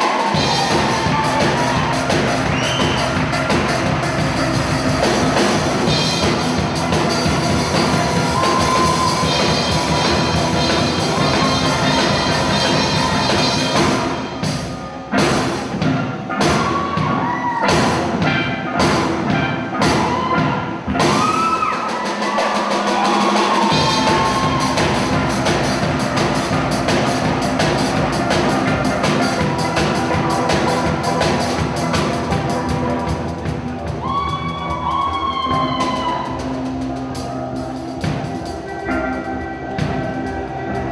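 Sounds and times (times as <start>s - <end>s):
steel pan band playing: 0.0s - 40.9s.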